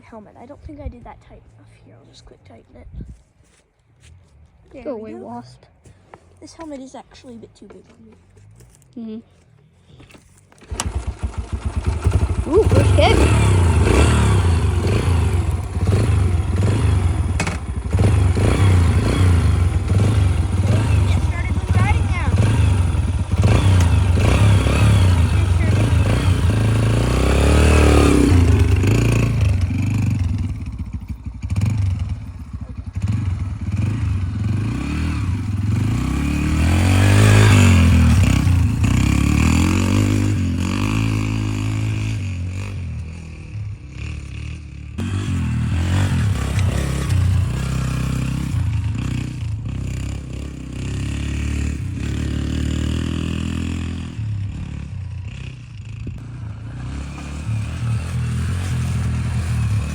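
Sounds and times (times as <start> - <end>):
dirt bike engine revving: 10.6 - 59.9.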